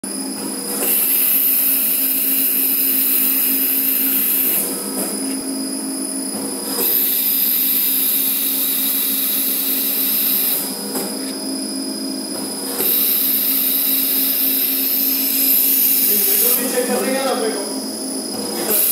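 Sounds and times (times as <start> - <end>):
machine motor whine: 0.0 - 18.9.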